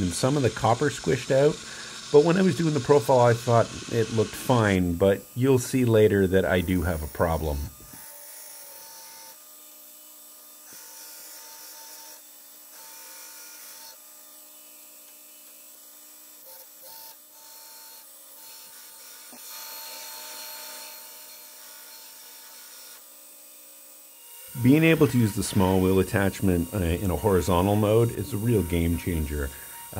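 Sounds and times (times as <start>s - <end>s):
belt grinder hissing on metal: 0.0s - 29.9s.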